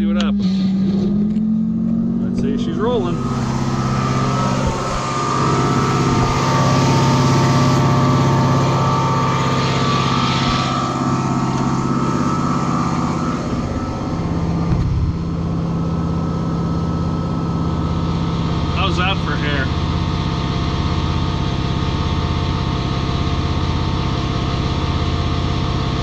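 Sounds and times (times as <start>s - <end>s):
diesel engine running: 0.0s - 26.0s
air compressor running: 0.4s - 26.0s.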